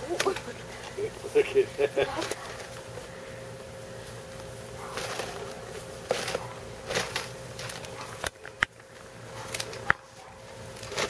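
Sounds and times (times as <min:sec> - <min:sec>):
faint steady hum: 0:00.0 - 0:11.0
puppies rustling in grass: 0:00.0 - 0:11.0.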